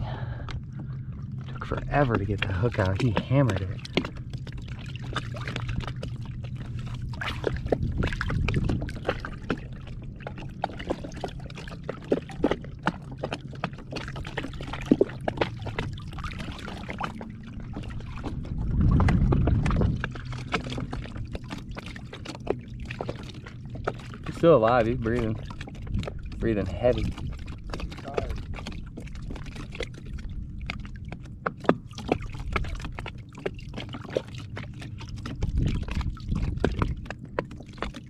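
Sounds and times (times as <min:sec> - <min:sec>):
low steady hum: 0:00.0 - 0:38.0
water splashing and trickling: 0:00.0 - 0:38.0.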